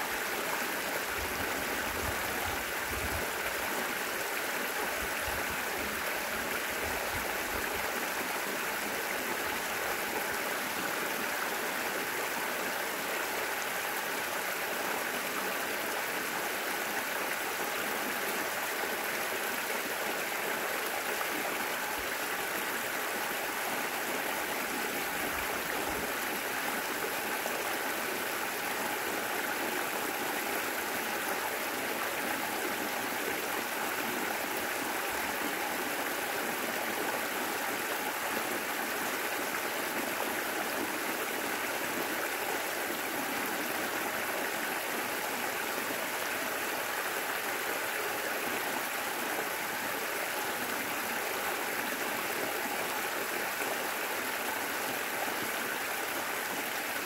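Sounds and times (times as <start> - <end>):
water flowing over a spillway: 0.0 - 57.0.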